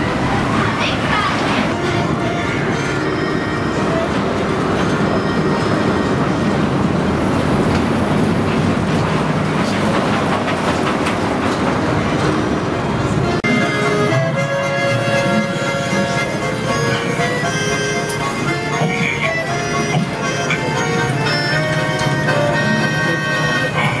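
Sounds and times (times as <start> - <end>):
roller coaster wheels rushing on track: 0.0 - 24.0.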